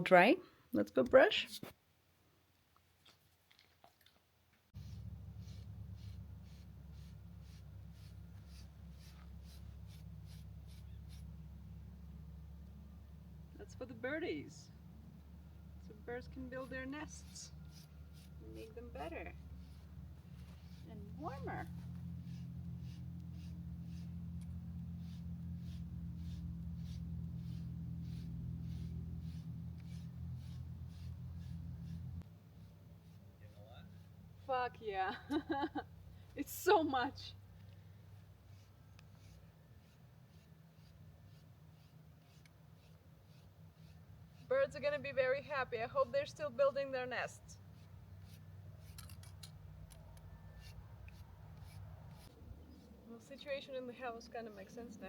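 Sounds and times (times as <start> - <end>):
steady low hum: 4.7 - 55.0
brush scratching through dog fur: 4.8 - 12.4, 15.2 - 35.8, 38.0 - 55.0.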